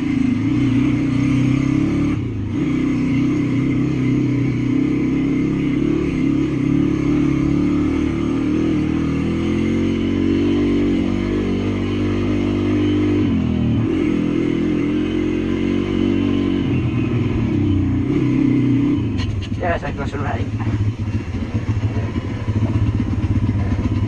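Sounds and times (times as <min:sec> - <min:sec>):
small motorcycle engine revving: 0:00.0 - 0:19.6, 0:20.3 - 0:24.0.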